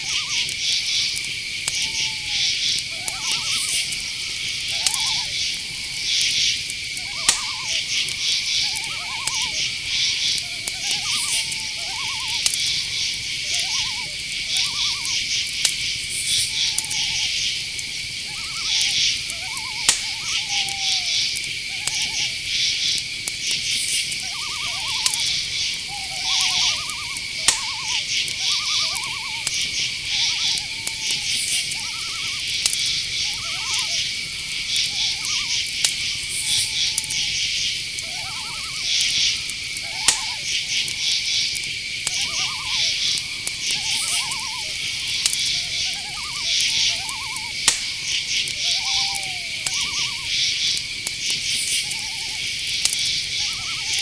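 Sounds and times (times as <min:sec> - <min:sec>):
crickets trilling: 0:00.0 - 0:54.0
insect chirps: 0:00.0 - 0:54.0
owls hooting: 0:00.0 - 0:54.0
sharp clicks: 0:02.6 - 0:53.6.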